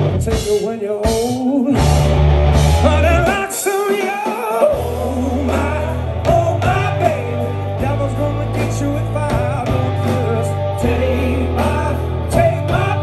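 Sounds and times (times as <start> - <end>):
man singing: 0.0 - 2.1, 2.8 - 13.0
bass guitar: 0.0 - 13.0
drums: 0.0 - 13.0
electric guitar: 0.0 - 13.0.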